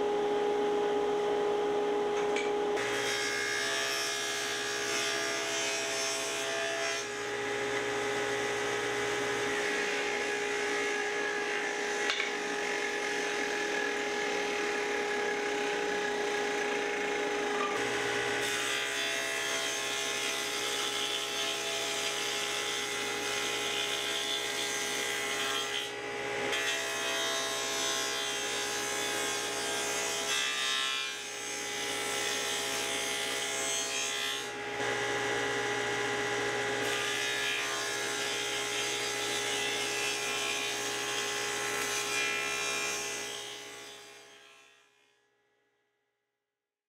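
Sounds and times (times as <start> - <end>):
table saw cutting wood: 0.0 - 44.7.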